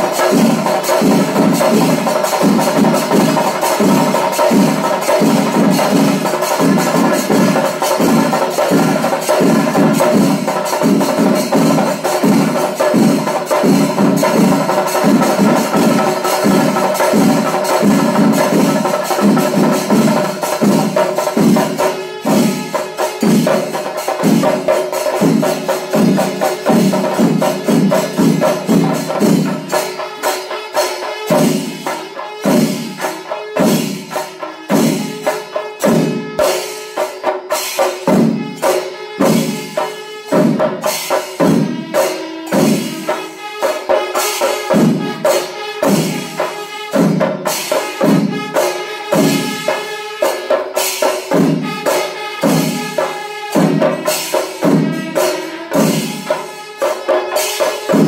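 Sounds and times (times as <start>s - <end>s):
drums beating: 0.0s - 58.0s
hand cymbals clashing: 0.0s - 58.0s.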